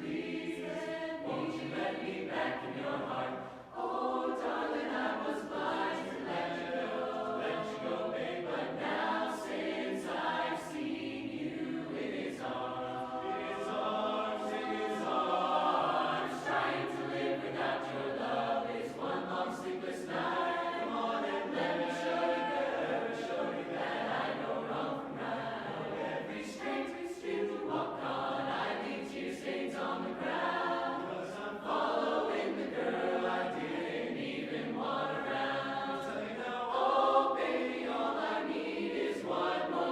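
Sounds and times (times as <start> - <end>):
mixed chorus singing a cappella: 0.0 - 39.9.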